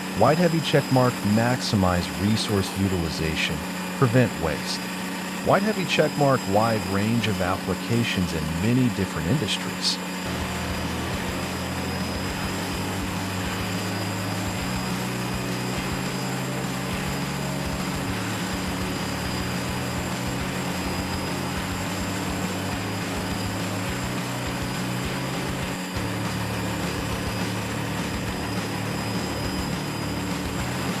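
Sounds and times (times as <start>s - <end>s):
wood chipper engine droning: 0.0s - 31.0s.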